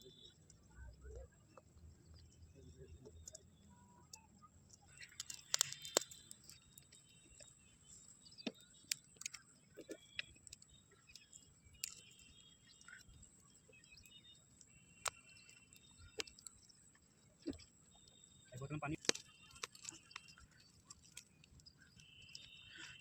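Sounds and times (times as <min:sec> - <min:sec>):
faint high chirps: 0:00.0 - 0:23.0.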